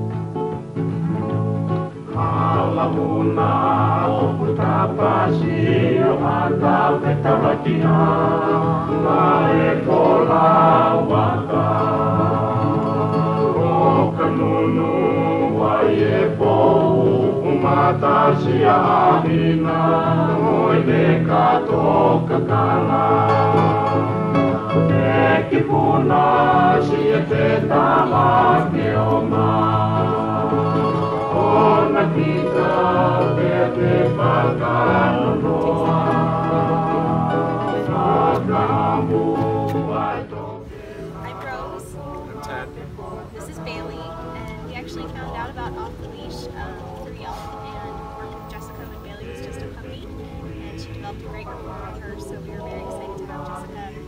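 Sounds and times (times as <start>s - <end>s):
song with choir-like singing: 0.0s - 54.0s.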